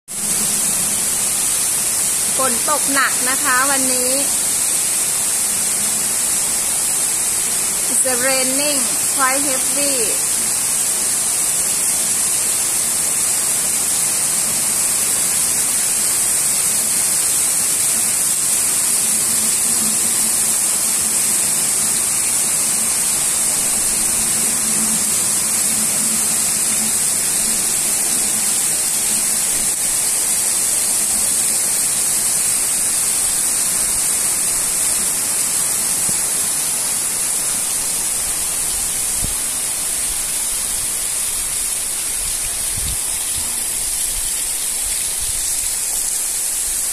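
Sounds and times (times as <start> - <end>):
heavy rain falling: 0.1 - 46.9.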